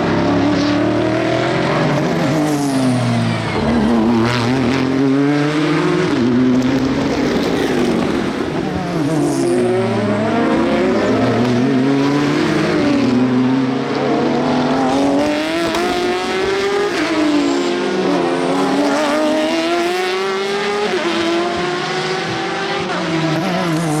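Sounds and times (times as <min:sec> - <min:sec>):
race car engines accelerating: 0:00.0 - 0:24.0.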